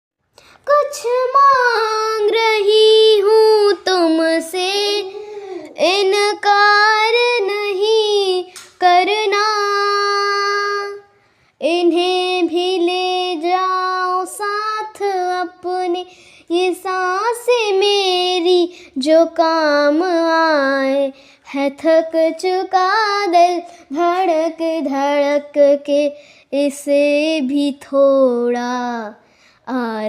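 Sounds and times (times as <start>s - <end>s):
girl singing unaccompanied: 0.4s - 30.0s.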